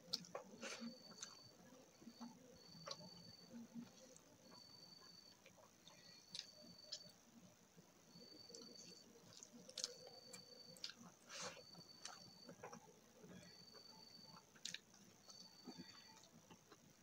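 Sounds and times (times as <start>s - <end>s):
soft chewing: 0.0s - 7.2s, 8.1s - 17.0s.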